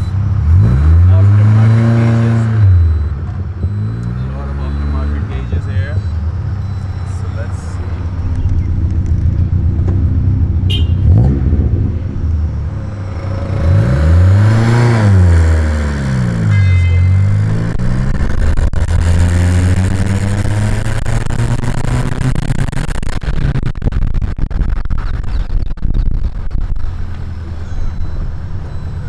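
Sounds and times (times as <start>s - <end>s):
car engine revving while driving: 0.0s - 23.7s.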